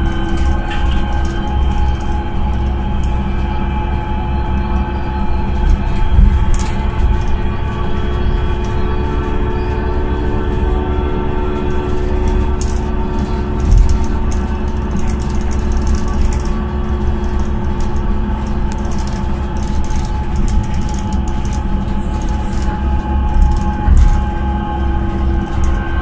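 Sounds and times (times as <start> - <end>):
bus interior rumble: 0.0 - 26.0
multi-tone hum: 0.0 - 26.0.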